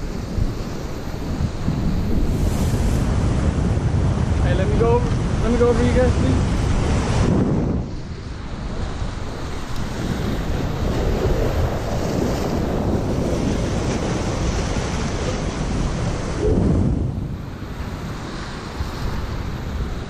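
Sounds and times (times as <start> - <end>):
surf washing against rocks: 0.0 - 20.0
wind buffeting microphone: 0.0 - 20.0.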